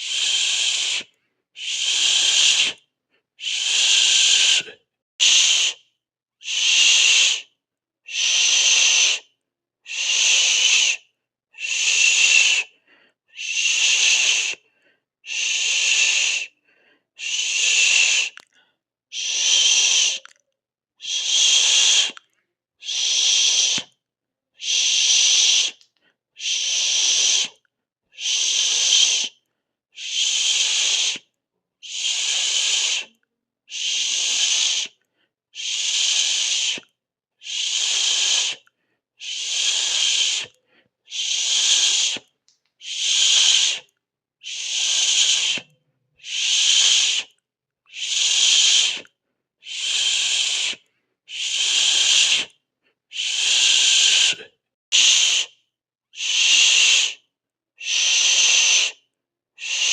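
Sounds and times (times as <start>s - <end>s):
person hissing with mouth: 0.0s - 7.5s, 8.1s - 9.3s, 9.9s - 11.0s, 11.6s - 20.4s, 21.0s - 24.0s, 24.6s - 55.6s, 56.2s - 59.9s.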